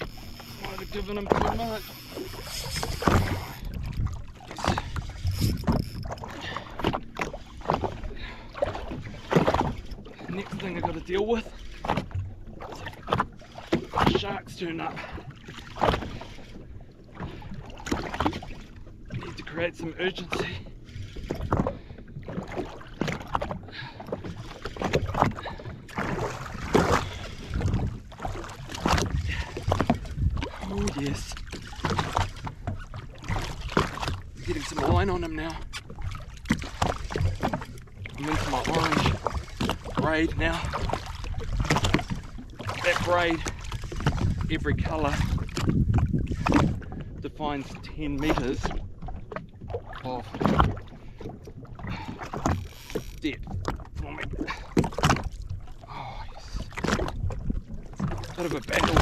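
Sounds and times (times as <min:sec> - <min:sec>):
water slapping against hull: 0:00.0 - 0:59.0.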